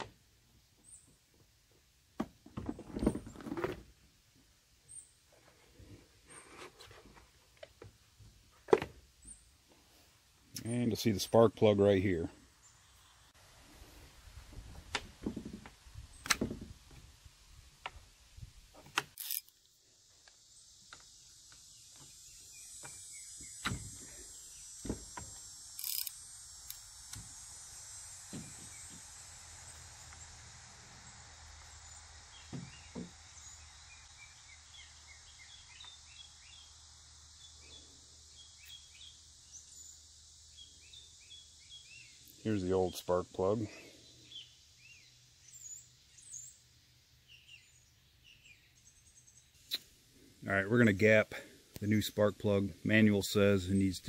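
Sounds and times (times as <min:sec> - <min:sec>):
steady high hiss: 0:03.8 - 0:54.0.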